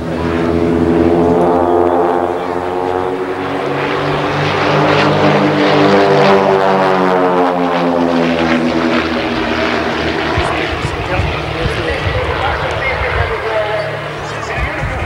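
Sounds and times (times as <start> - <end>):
propeller planes droning overhead: 0.0 - 15.0.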